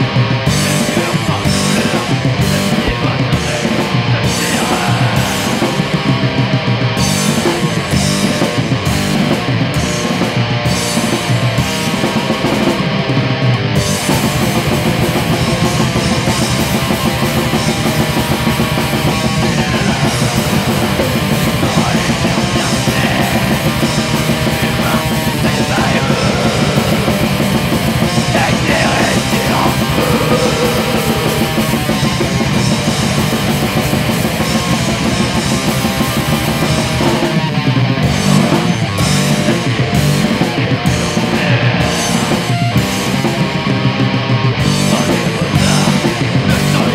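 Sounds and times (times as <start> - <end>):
distorted electric guitars: 0.0 - 46.9
drums: 0.0 - 46.9.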